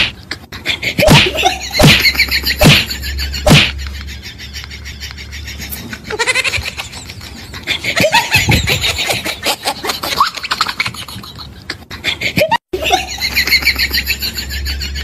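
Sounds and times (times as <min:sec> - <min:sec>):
human laughter: 0:00.0 - 0:15.0
steady low hum: 0:00.0 - 0:15.0.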